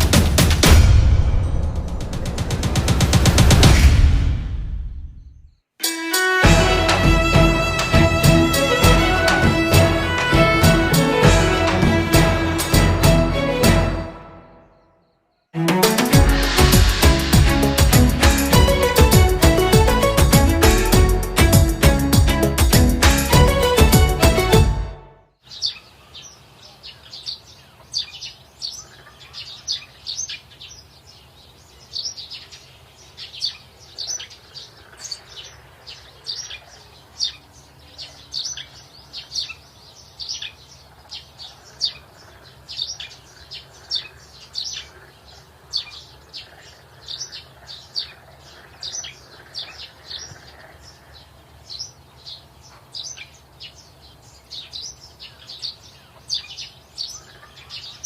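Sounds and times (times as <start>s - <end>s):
birds chirping: 6.5s - 24.8s, 25.4s - 58.0s.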